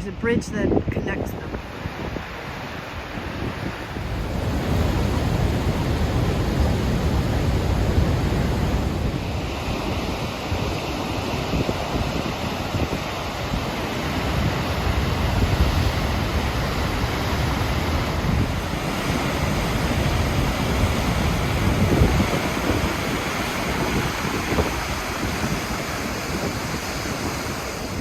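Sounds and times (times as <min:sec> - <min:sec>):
wind buffeting microphone: 0:00.0 - 0:28.0
waterfall roaring: 0:01.4 - 0:28.0.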